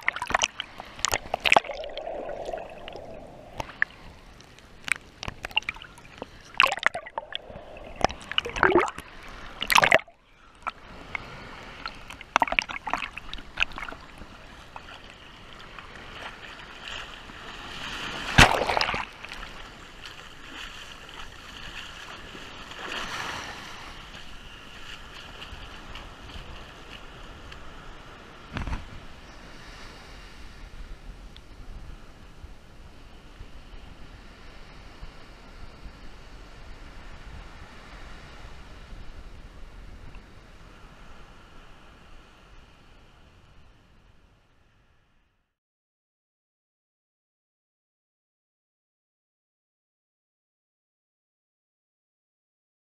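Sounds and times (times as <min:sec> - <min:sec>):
surf splashing and sloshing: 0:00.0 - 0:43.7
small waves hissing on sand: 0:00.0 - 0:45.1.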